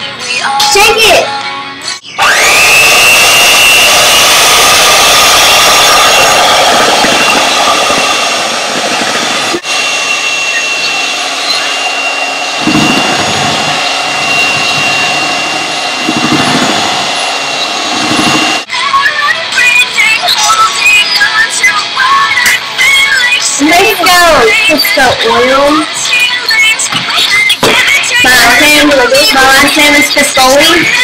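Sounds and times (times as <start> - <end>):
electric hand mixer whirring: 2.1 - 18.8, 20.1 - 31.0.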